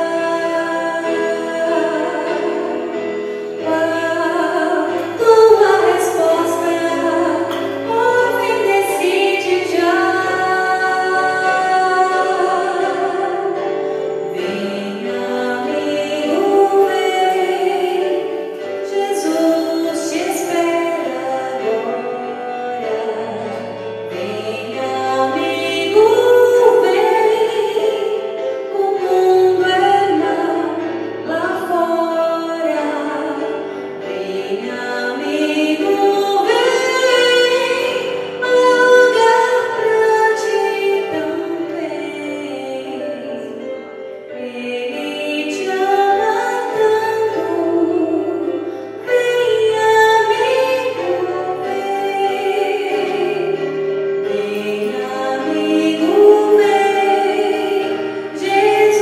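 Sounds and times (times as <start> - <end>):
low instrumental accompaniment: 0.0 - 59.0
woman singing into microphone: 0.0 - 59.0.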